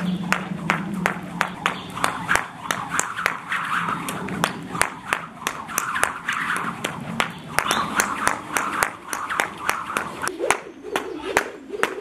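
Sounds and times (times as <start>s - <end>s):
jump rope slapping the ground: 0.0s - 12.0s.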